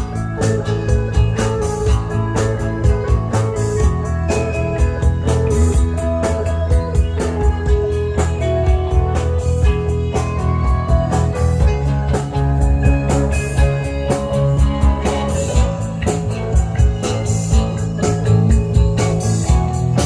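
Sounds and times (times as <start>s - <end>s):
rock band music: 0.0s - 20.0s.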